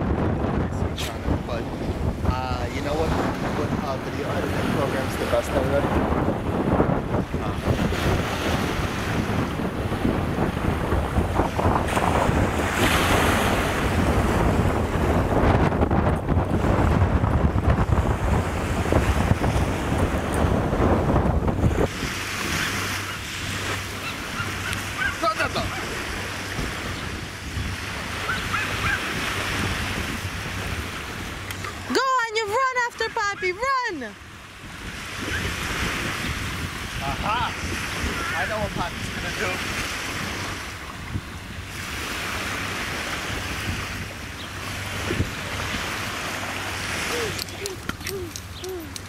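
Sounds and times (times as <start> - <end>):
small waves washing on sand: 0.0 - 49.0
wind: 0.0 - 49.0.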